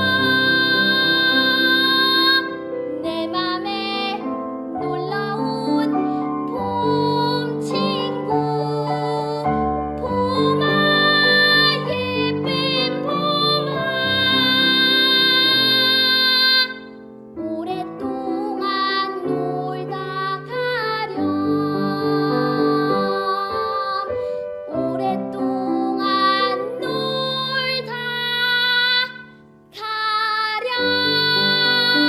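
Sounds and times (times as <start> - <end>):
child singing: 0.0 - 32.0.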